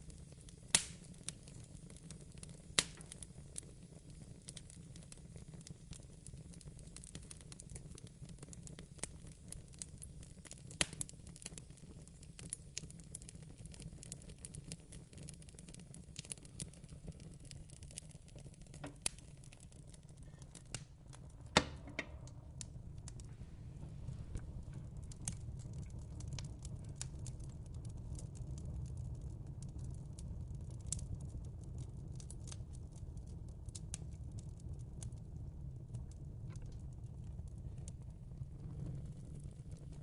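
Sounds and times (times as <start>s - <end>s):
low steady fire rumble: 0.0s - 40.0s
wood fire crackling and popping: 0.0s - 40.0s.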